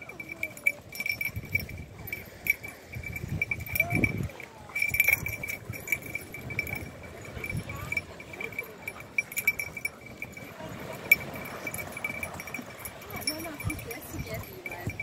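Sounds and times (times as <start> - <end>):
dog collar metal jingling: 0.0 - 15.0.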